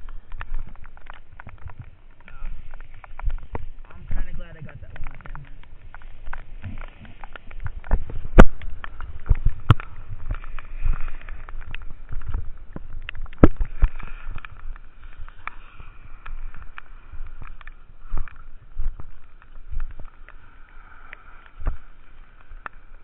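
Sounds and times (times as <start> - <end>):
skis on slushy snow: 0.0 - 23.0.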